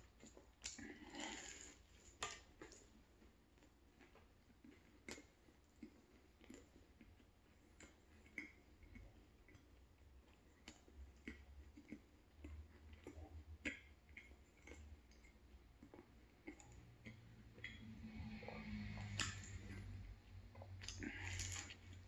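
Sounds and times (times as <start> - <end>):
chewing croissant: 0.0 - 22.0.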